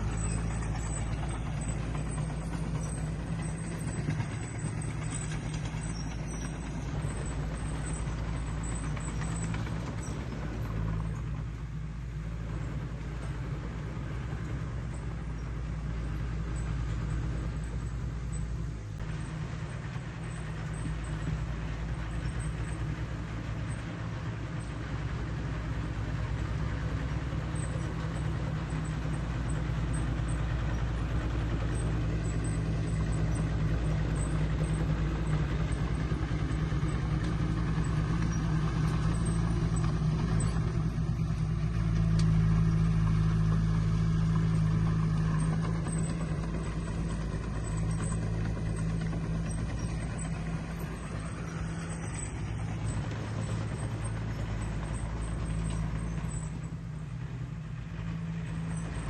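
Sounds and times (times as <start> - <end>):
construction machine diesel engine: 0.0 - 59.0.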